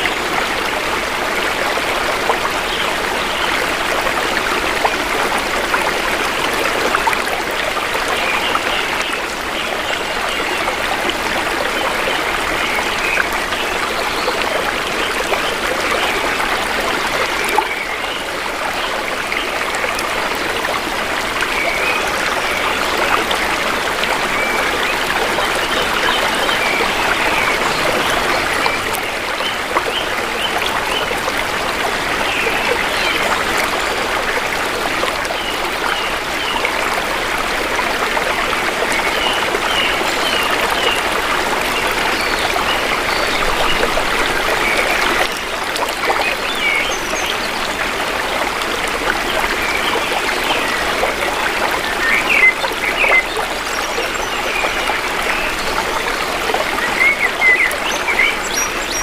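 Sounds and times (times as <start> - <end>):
shallow river water flowing: 0.0 - 59.0.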